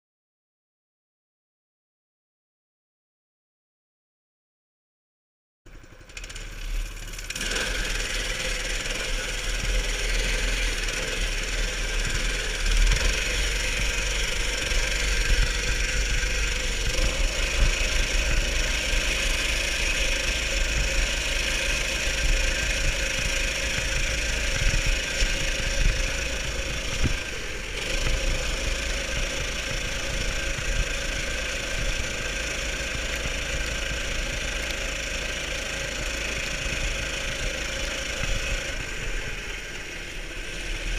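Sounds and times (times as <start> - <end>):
mini bike engine running: 5.7 - 40.9.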